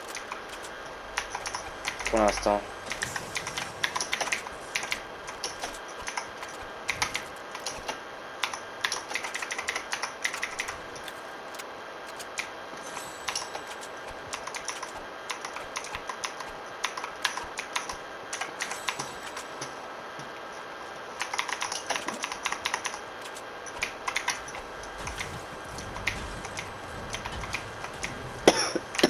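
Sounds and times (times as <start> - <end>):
computer keyboard keys clacking: 0.0 - 11.2, 13.3 - 19.4, 21.2 - 28.2.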